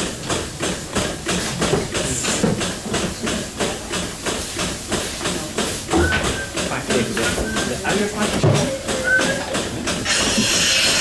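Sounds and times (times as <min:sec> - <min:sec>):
milking machine pulsators hissing and clicking: 0:00.0 - 0:11.0.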